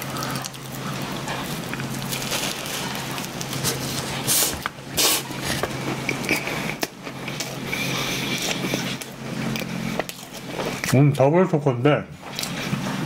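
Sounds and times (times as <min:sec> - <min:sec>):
wet chewing mouth sounds: 0:00.0 - 0:11.0, 0:12.3 - 0:13.0.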